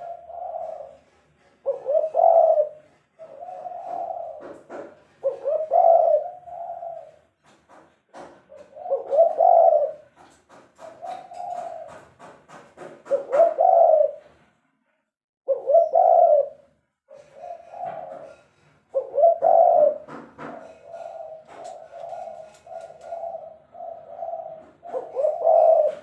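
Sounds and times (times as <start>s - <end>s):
dove cooing: 0.0s - 7.4s, 8.5s - 14.3s, 15.5s - 26.0s.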